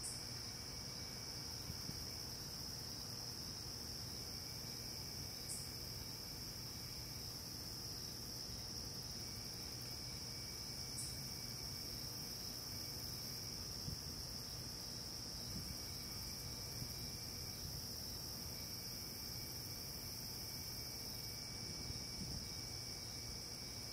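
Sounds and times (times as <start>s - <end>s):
crickets trilling: 0.0s - 23.9s
lower insect trill: 0.0s - 23.9s.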